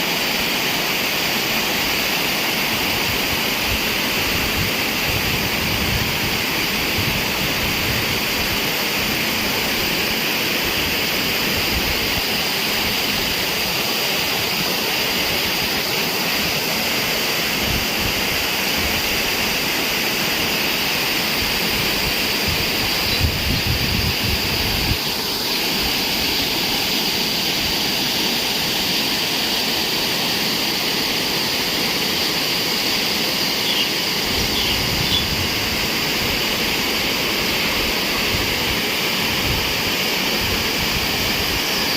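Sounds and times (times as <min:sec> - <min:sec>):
water rushing down waterfalls: 0:00.0 - 0:41.9.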